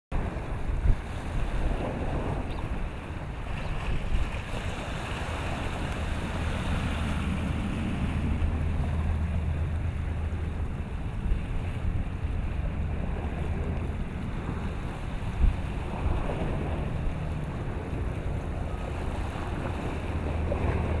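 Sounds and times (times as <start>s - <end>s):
choppy water: 0.1s - 21.0s
wind buffeting microphone: 0.1s - 21.0s.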